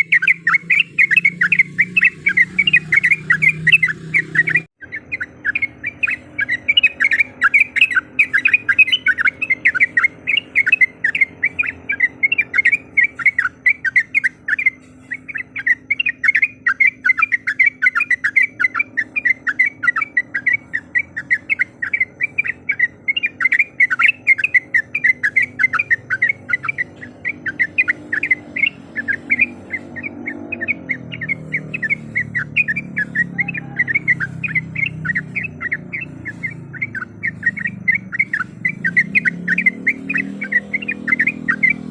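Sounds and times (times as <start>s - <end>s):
bird chattering calls: 0.0s - 41.9s.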